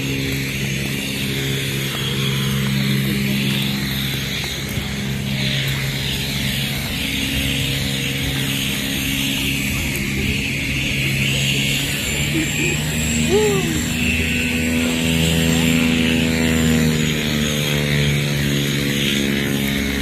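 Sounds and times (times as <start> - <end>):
propeller aircraft engine drone: 0.0 - 20.0.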